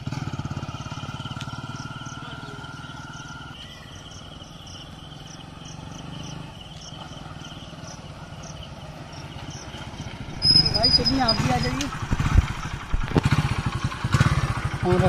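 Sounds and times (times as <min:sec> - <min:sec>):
distant motorcycle engine: 0:00.0 - 0:15.0.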